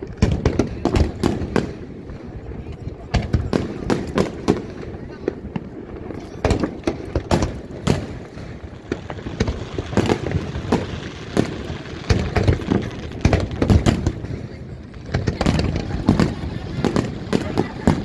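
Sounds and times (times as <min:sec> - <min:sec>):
fireworks bangs and booms: 0:00.0 - 0:18.0.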